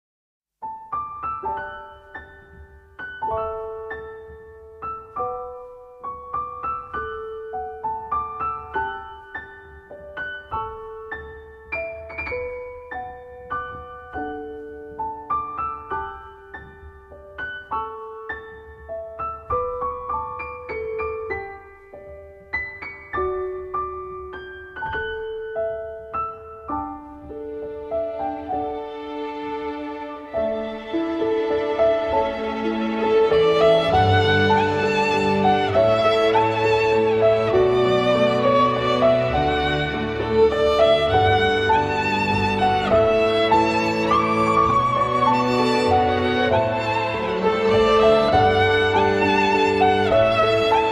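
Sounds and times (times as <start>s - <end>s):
gentle piano melody: 0.6s - 50.9s.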